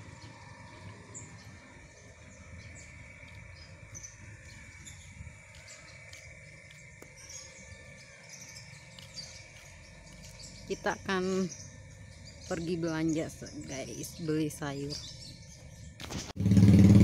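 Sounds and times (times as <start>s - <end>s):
bird chirps: 0.0s - 16.2s
insect drone: 0.0s - 16.3s.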